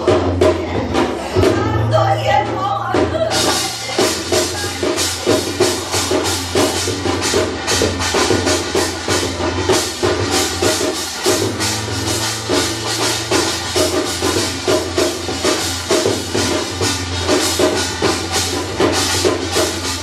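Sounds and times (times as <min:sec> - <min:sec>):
percussion ensemble drumming: 0:00.0 - 0:20.0.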